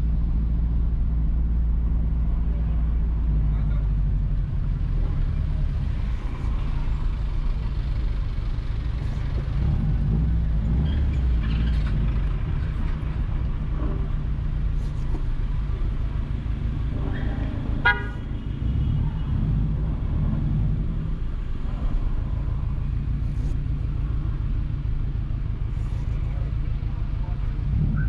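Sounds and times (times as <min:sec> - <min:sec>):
car driving slowly: 0:00.0 - 0:28.0.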